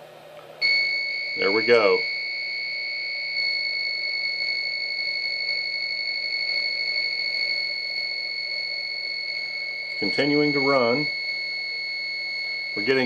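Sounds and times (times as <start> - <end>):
continuous high-pitched alarm beep: 0.6 - 13.0.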